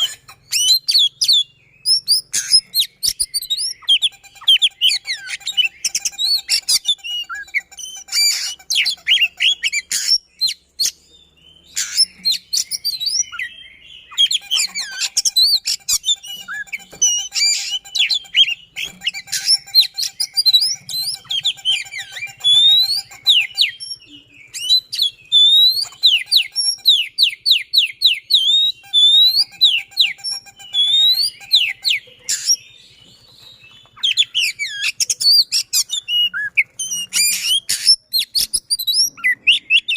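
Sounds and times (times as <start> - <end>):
bird singing fast whistled song: 0.0 - 39.9.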